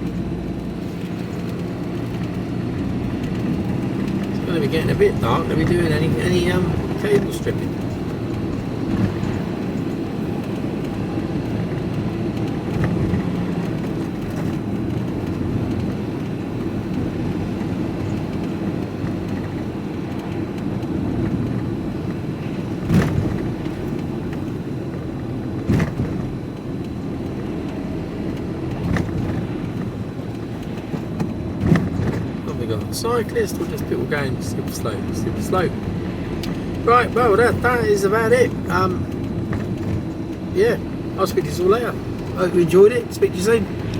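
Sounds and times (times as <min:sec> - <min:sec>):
vehicle engine and road rumble: 0:00.0 - 0:43.9.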